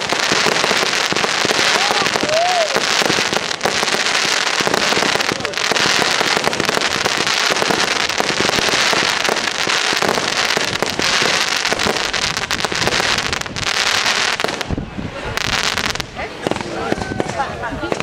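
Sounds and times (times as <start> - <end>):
fireworks crackling pops: 0.0 - 18.0.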